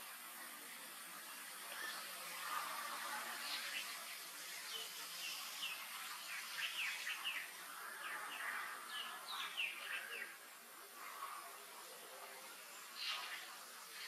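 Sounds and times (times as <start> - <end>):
steady outdoor hiss: 0.0 - 14.0
birds chirping: 1.6 - 14.0.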